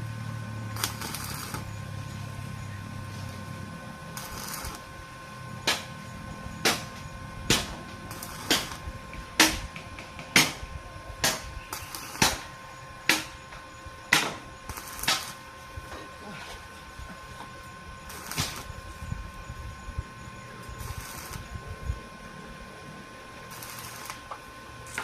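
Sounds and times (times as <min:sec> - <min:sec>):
faint steady whine: 0:00.0 - 0:25.0.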